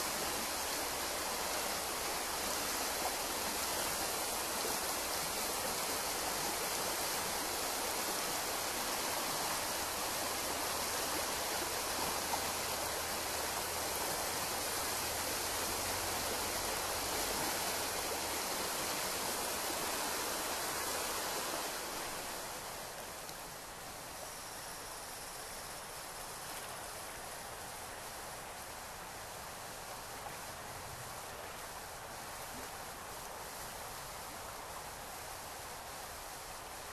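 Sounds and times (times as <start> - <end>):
stream rushing over rocks: 0.0 - 36.9.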